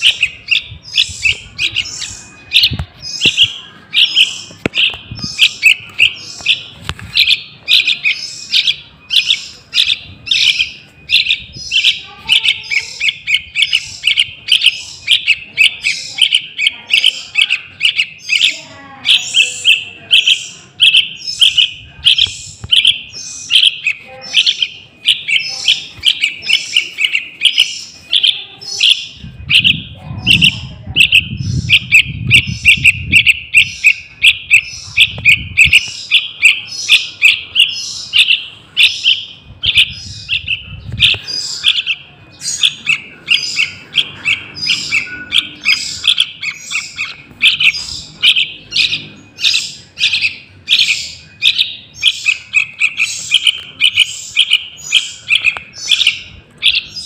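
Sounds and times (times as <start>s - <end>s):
bird chick chirping: 0.0s - 57.0s.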